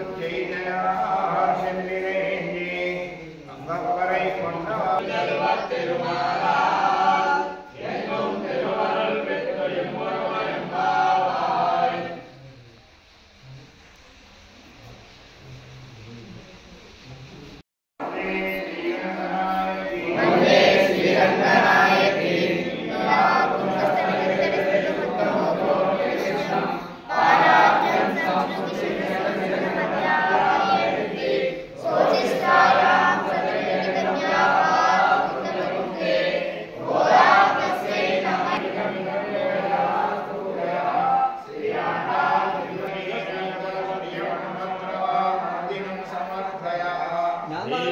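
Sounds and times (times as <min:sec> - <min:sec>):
group chanting a hymn: 0:00.0 - 0:12.5, 0:18.0 - 0:47.9.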